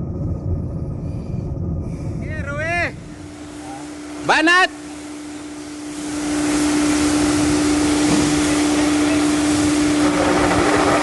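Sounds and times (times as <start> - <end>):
transmission grinding hum: 0.0 - 11.0.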